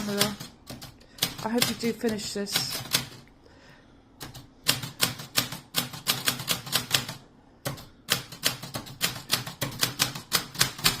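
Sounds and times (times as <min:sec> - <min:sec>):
manual typewriter key strikes: 0:00.0 - 0:03.2, 0:04.2 - 0:11.0.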